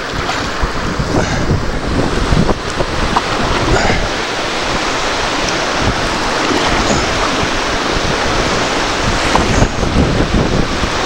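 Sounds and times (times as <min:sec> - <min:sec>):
river water rushing: 0:00.0 - 0:11.0
wind buffeting microphone: 0:00.0 - 0:11.0.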